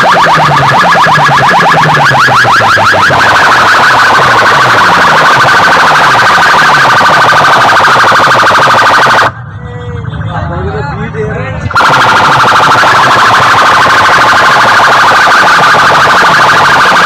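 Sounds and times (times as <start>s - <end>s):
electronic siren effect: 0.0s - 17.0s
low repeating bass sweep: 0.0s - 17.0s.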